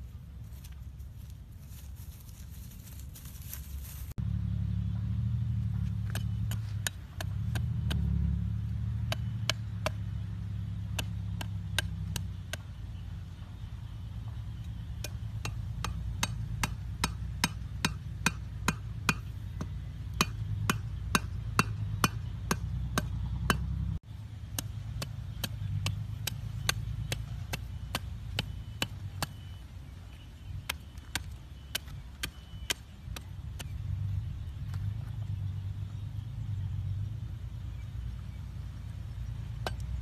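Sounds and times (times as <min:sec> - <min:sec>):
low steady rumble: 0:00.0 - 0:40.0.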